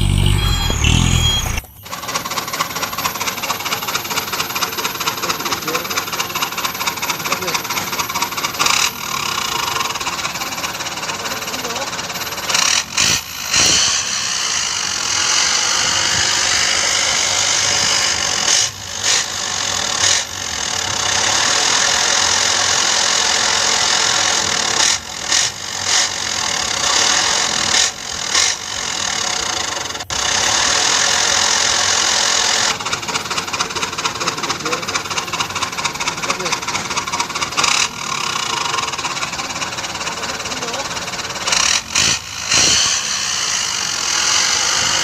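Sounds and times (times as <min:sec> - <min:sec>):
truck engine running hard: 0:00.0 - 0:45.0.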